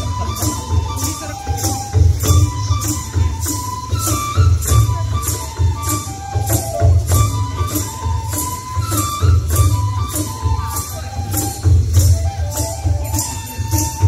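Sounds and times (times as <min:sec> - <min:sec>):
low drum beat: 0:00.0 - 0:14.0
sharp percussion strokes: 0:00.0 - 0:14.0.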